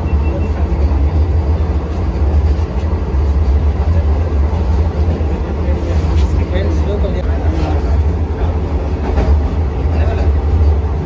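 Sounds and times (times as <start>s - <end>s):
train deep rumble: 0.0s - 11.0s.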